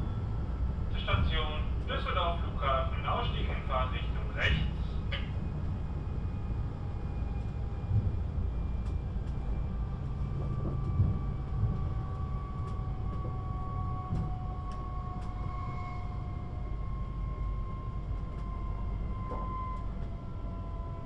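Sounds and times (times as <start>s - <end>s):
traction drive whine: 0.0s - 21.0s
wheels rumbling on track: 0.0s - 21.0s.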